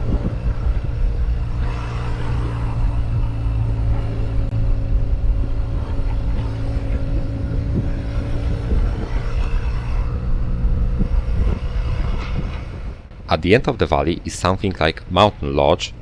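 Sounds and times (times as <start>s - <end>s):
motorcycle engine running: 0.0s - 13.3s
low wind rumble: 0.0s - 16.0s.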